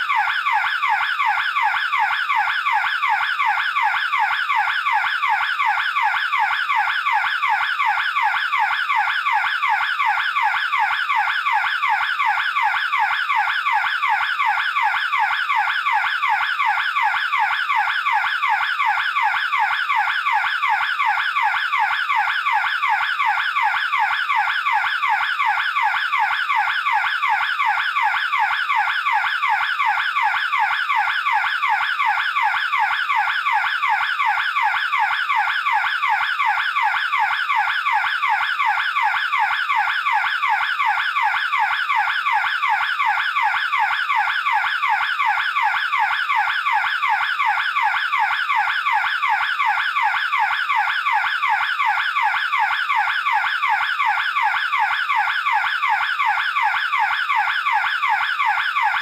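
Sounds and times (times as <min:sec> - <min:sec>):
burglar alarm wailing: 0:00.0 - 0:59.0.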